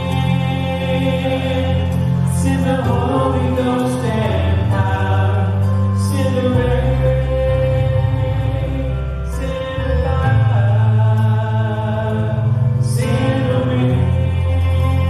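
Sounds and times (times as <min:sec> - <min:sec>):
bass line: 0:00.0 - 0:15.0
held chords: 0:00.0 - 0:15.0
voices singing long notes: 0:00.0 - 0:15.0.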